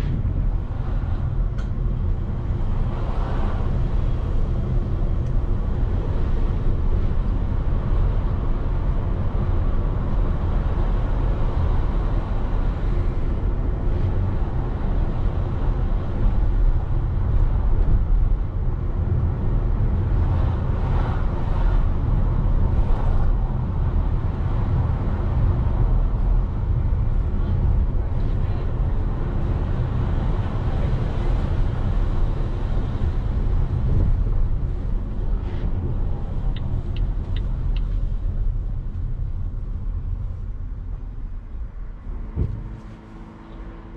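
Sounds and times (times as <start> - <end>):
road noise: 0.0 - 43.9
vehicle engine hum: 0.0 - 43.9.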